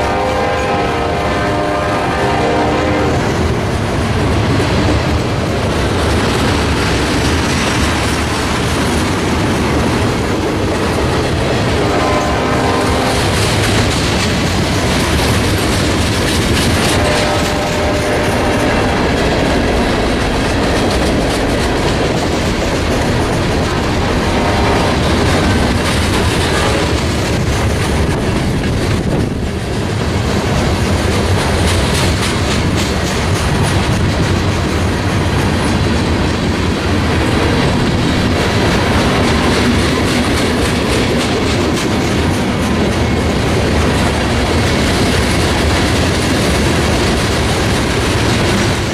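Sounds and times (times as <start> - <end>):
freight train rumble: 0.0 - 48.9
wheels clacking over rail joints: 3.0 - 48.9.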